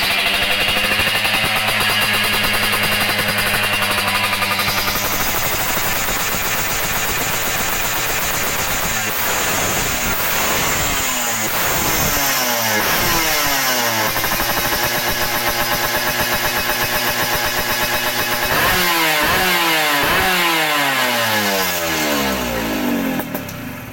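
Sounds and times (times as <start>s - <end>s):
two-stroke motorcycle engine revving: 0.0s - 23.9s.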